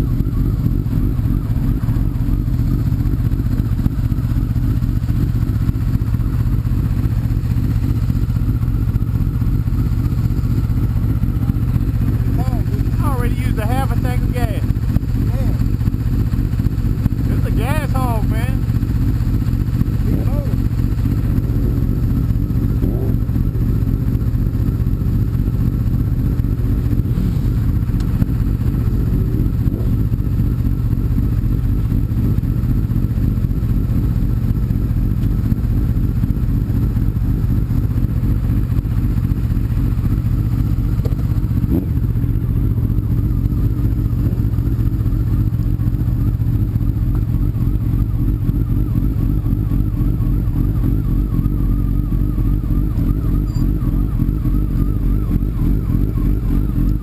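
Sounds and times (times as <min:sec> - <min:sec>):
motorcycle engine and road rumble: 0:00.0 - 0:57.0.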